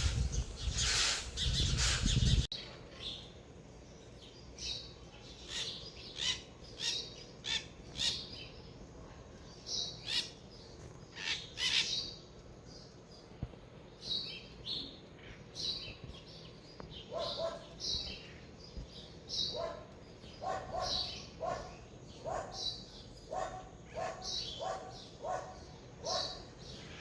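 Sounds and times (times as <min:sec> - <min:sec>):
harsh lower bird calls: 0:00.0 - 0:03.3, 0:04.4 - 0:08.6, 0:09.6 - 0:13.3, 0:14.0 - 0:27.0
birds chirping: 0:00.0 - 0:27.0.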